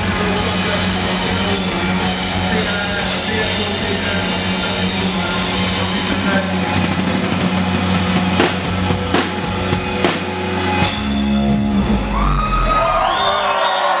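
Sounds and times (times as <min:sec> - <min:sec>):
live rock band playing: 0:00.0 - 0:12.9.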